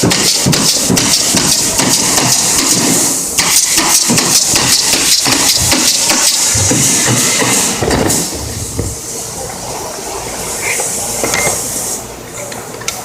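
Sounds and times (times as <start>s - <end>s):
compressed air hissing: 0.0s - 9.4s, 10.3s - 12.2s.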